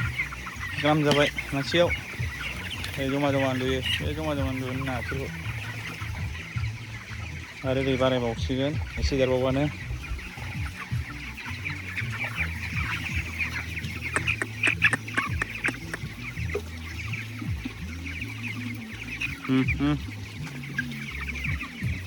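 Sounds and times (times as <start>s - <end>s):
chickens peeping and clucking: 0.0s - 22.0s.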